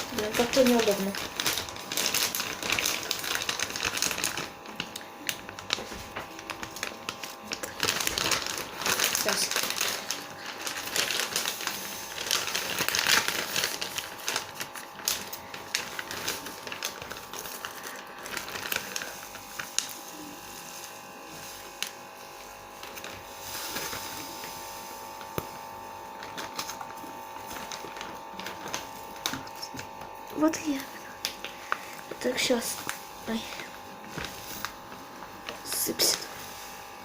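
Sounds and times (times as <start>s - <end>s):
paper packet crinkling: 0.0s - 37.0s
powder pouring from packet: 0.0s - 37.0s.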